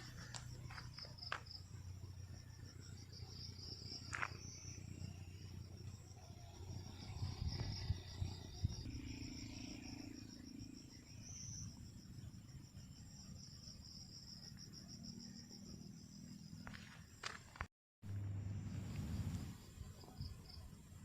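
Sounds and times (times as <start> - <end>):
insects trilling: 0.0 - 17.6.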